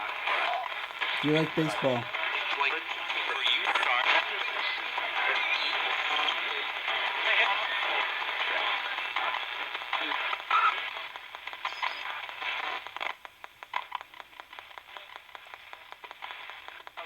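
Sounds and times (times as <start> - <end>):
radio static hiss: 0.0 - 17.0
rapid radio clicks: 0.0 - 17.0
snatches of broadcast audio: 0.0 - 17.0.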